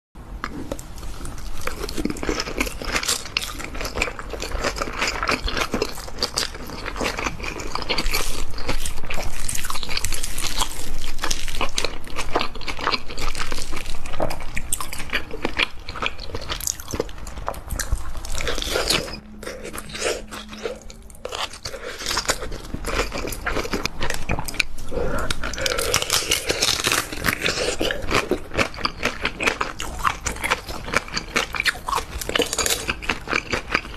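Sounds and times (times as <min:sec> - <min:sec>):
wet chewing and crunching: 0:00.4 - 0:33.9.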